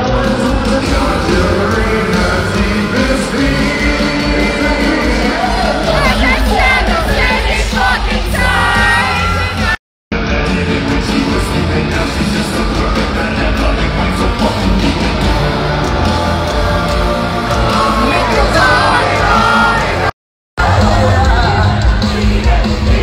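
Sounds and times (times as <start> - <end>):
live heavy metal band: 0.0 - 23.0
person singing: 0.0 - 23.0.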